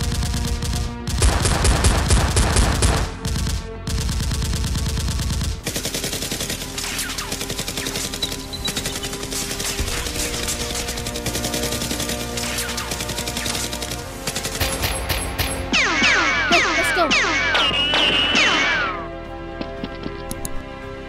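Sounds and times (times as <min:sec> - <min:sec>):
automatic gunfire: 0:00.0 - 0:18.7
background music: 0:00.0 - 0:21.0.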